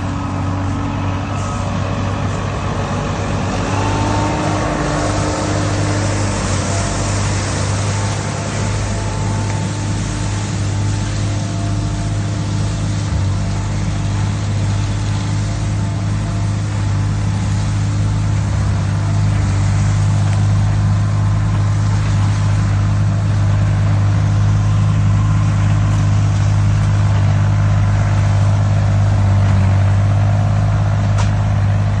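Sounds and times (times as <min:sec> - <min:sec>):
tractor engine droning: 0:00.0 - 0:32.0.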